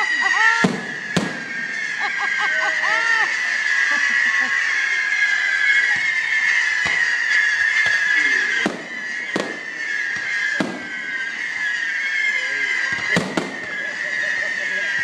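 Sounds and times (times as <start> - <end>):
fireworks bangs: 0.0 - 15.0
high-pitched whine: 0.0 - 15.0.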